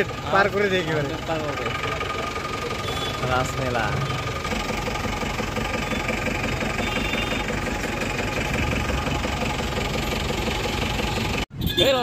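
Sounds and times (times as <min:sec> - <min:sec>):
bus engine idling: 0:00.0 - 0:11.5.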